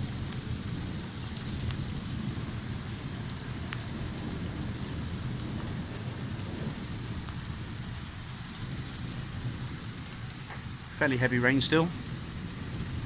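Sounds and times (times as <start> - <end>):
heavy rain falling: 0.0 - 13.0
low rolling thunder: 0.0 - 13.0
raindrops ticking: 0.0 - 13.0.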